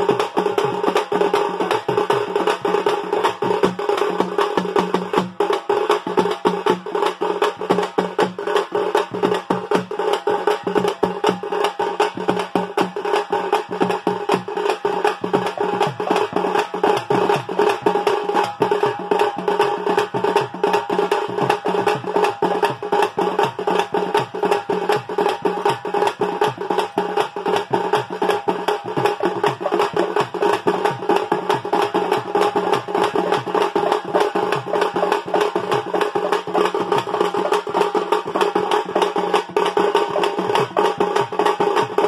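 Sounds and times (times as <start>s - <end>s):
folk drum band playing: 0.0s - 42.0s.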